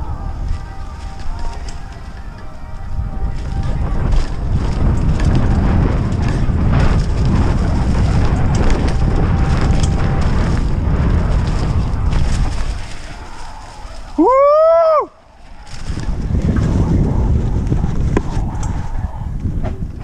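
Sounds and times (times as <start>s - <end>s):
bike knocks and rattles: 0.0s - 14.6s, 15.6s - 18.8s, 19.4s - 20.0s
tyres rumbling over dirt: 0.0s - 20.0s
wind buffeting microphone: 0.0s - 20.0s.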